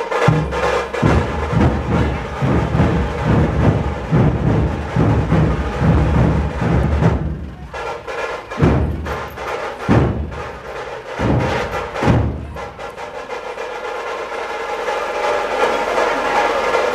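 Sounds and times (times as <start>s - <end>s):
dhol drums booming: 0.0s - 16.9s.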